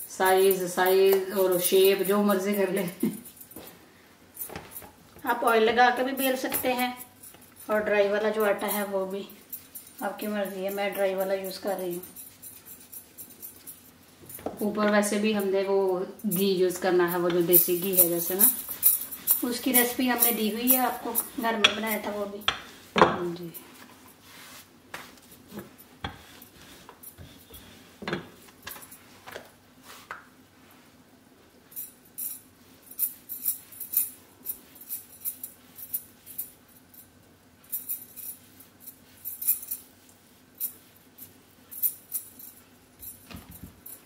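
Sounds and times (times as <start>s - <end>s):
metal bangles jingling: 0.0s - 3.7s, 4.4s - 24.2s, 31.7s - 44.0s.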